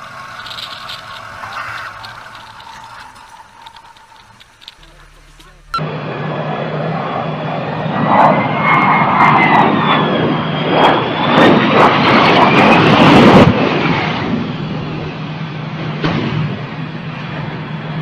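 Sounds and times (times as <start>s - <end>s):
jet engine roar with turbine whine: 0.0s - 18.0s.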